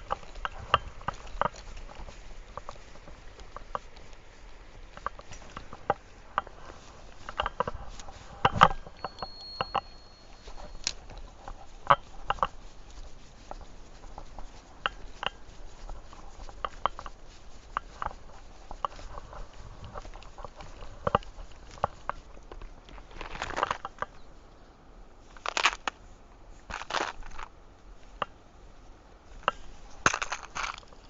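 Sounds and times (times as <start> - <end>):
footsteps on stones: 0.0 - 24.2, 25.3 - 26.0, 26.6 - 28.2, 29.3 - 31.0.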